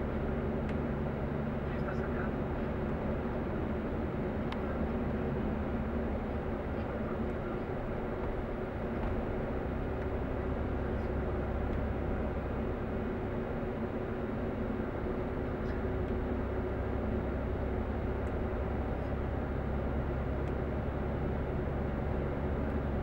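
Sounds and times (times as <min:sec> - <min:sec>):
tyre road noise: 0:00.0 - 0:23.0
vehicle engine drone: 0:00.0 - 0:23.0.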